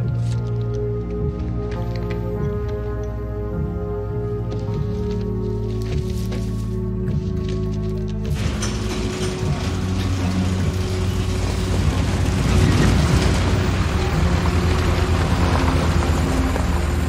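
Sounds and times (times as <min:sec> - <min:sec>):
truck engine and tyre noise: 0:00.0 - 0:17.0.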